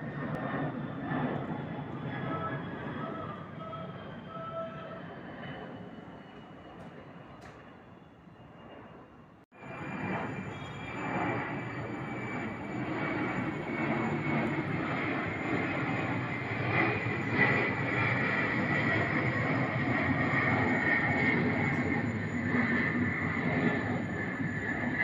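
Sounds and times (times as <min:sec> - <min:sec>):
airplane engines roaring: 0:00.0 - 0:25.0.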